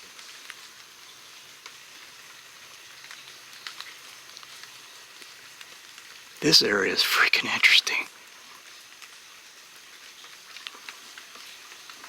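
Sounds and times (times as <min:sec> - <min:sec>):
light rain hiss: 0:00.0 - 0:12.0
raindrops ticking: 0:01.6 - 0:12.0.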